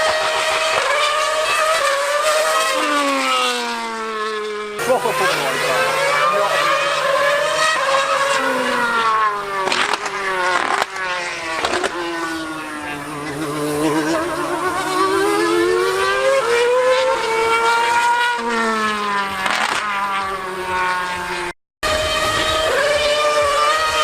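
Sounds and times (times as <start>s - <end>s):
race car engine revving high: 0.0s - 24.0s.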